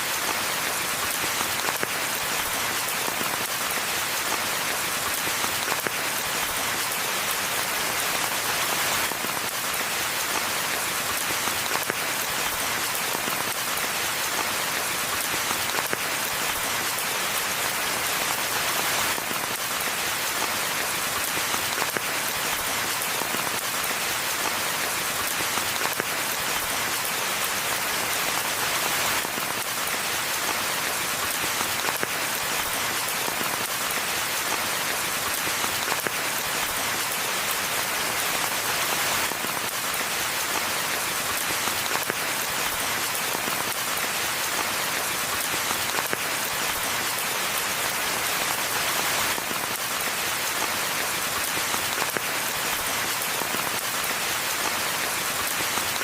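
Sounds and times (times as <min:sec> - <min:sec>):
rain pattering on foliage: 0:00.0 - 0:56.0.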